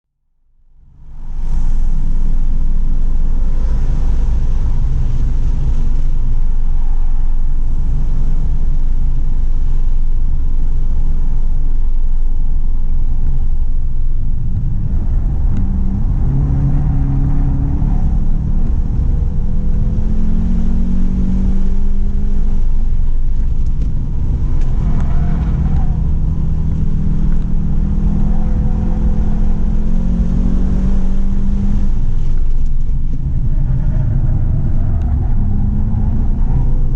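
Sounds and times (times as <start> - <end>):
road and wind noise: 0.6 - 36.9
car engine accelerating: 0.8 - 36.9.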